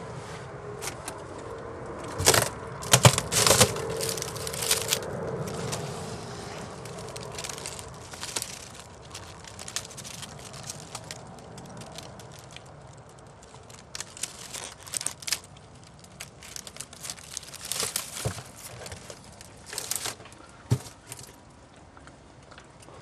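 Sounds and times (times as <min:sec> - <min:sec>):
dry reeds rustling and crackling: 0:00.8 - 0:21.4
reed stalks snapping: 0:02.0 - 0:21.3.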